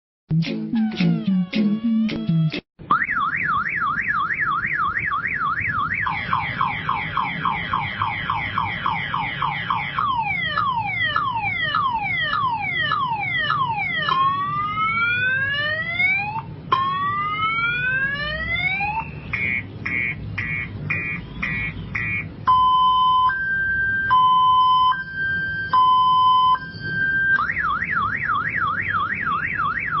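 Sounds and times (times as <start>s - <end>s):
motorbike alarm siren: 1.8s - 30.0s.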